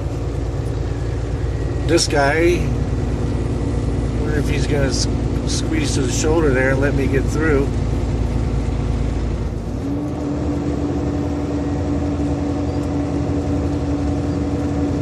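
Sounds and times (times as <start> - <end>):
diesel truck engine running: 0.0 - 15.0
road noise drone: 0.0 - 15.0.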